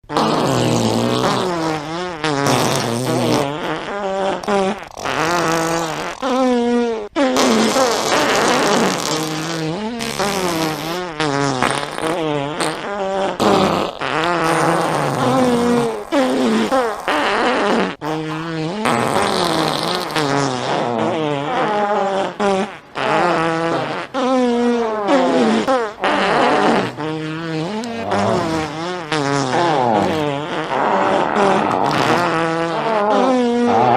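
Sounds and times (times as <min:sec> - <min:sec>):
fart sounds: 0:00.0 - 0:33.9.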